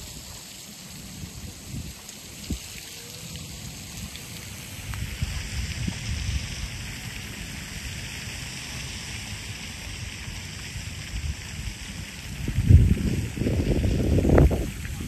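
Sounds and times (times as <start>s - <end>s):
running water hiss: 0.0s - 15.0s
wind buffeting microphone: 1.0s - 8.3s, 9.5s - 15.0s.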